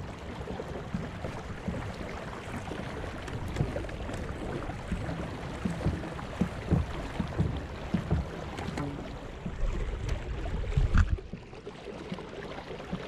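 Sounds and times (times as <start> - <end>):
water swishing along kayak hull: 0.0 - 13.0
wind buffeting microphone: 0.9 - 11.4.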